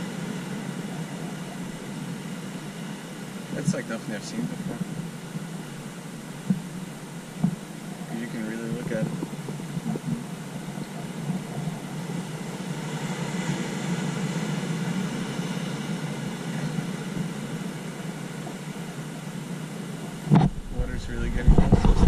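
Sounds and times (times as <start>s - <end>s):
surf breaking over rocks: 0.0s - 22.0s.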